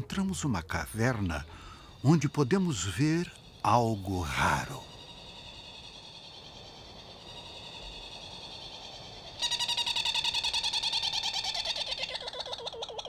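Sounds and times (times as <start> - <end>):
petrel rattling trill call: 0.0 - 13.0.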